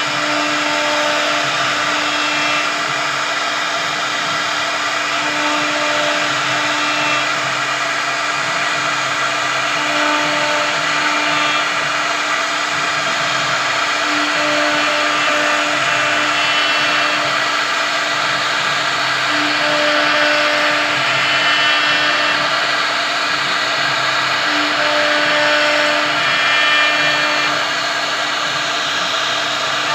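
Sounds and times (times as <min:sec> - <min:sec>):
router spindle cutting wood: 0:00.0 - 0:29.9.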